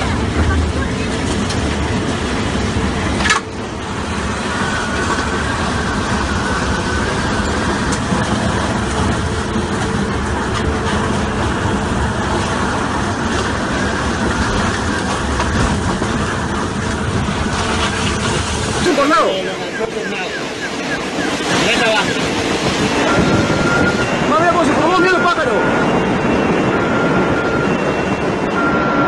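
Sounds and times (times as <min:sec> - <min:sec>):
storm wind rushing past buildings: 0:00.0 - 0:29.0.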